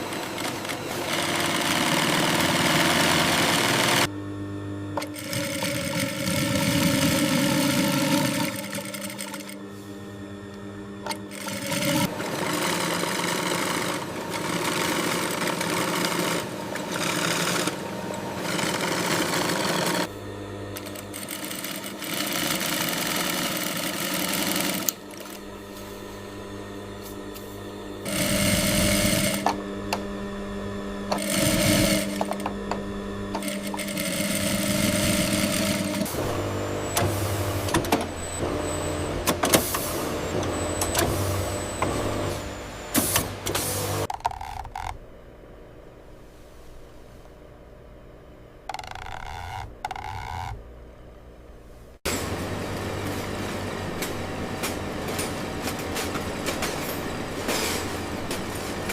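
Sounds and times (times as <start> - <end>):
factory machines humming: 0.0 - 58.9.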